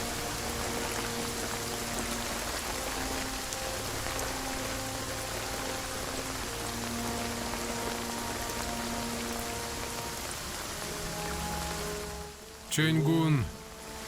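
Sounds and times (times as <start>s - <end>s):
rain hissing: 0.0s - 14.0s
soft background music: 0.0s - 14.0s.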